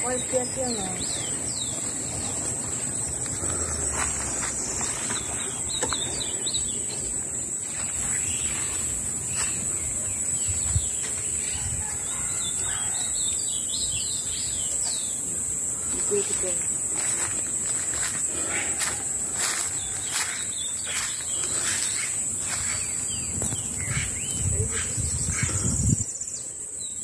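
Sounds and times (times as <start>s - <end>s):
birds chirping: 0.0s - 27.0s
high-pitched insect drone: 0.0s - 27.0s.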